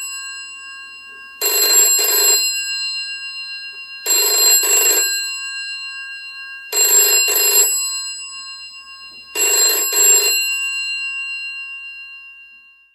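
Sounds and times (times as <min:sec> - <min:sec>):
telephone bell ringing: 0:00.0 - 0:12.9.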